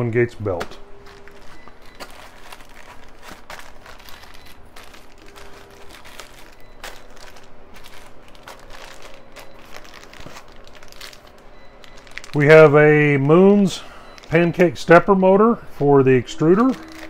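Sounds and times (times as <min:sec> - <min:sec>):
plastic bags crinkling: 0:00.4 - 0:15.4, 0:16.4 - 0:17.0.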